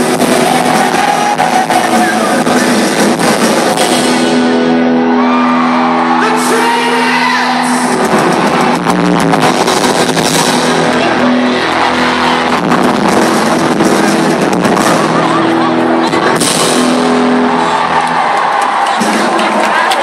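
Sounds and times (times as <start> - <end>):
audience whooping and shouting: 0.0 - 20.0
live pop-rock band: 0.0 - 20.0.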